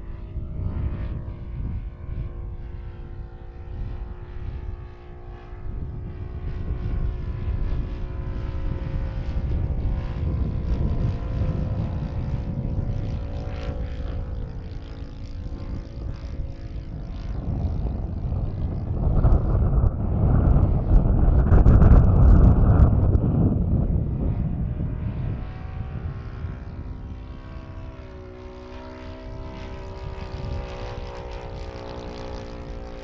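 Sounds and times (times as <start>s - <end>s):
model airplane motor and propeller: 0.0s - 33.0s
wind buffeting microphone: 0.0s - 33.0s.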